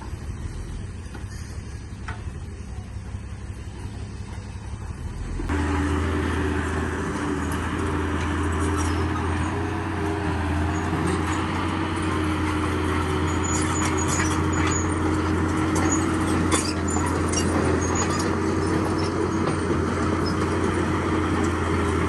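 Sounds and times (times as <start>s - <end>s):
diesel machinery engine drone: 0.0s - 22.0s.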